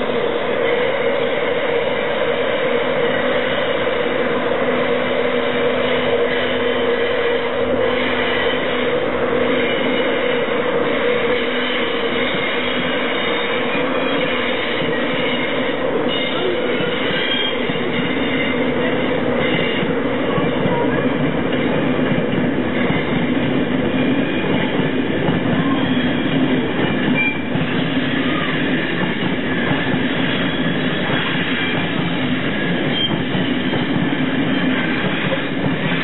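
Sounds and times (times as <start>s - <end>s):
electric locomotive departing: 0.0s - 36.0s.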